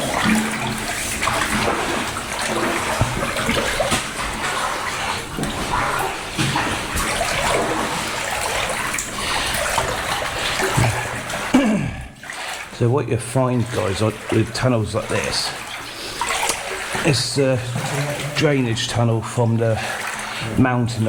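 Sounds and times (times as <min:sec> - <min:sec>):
feet wading through water: 0:00.0 - 0:21.0.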